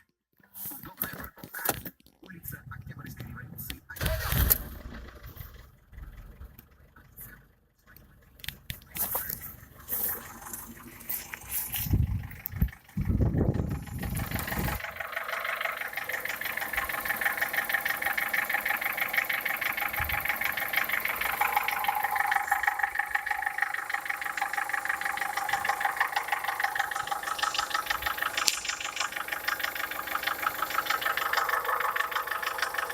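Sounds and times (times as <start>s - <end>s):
engine idling with knocking: 3.0s - 32.9s.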